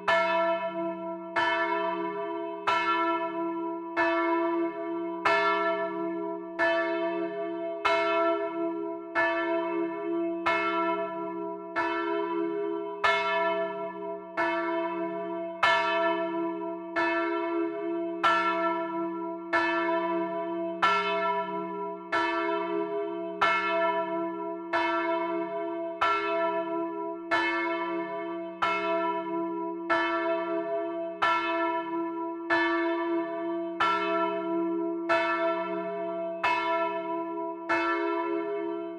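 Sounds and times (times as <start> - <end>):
church bell tolling: 0.0 - 38.9.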